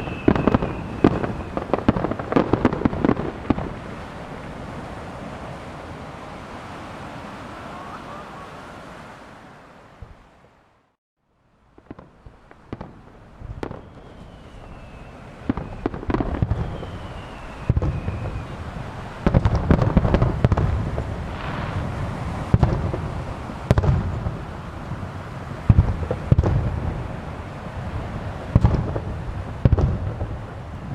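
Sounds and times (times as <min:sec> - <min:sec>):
fireworks bangs and booms: 0:00.0 - 0:07.2, 0:11.7 - 0:30.9
fireworks crackling: 0:00.0 - 0:07.3, 0:11.6 - 0:30.9.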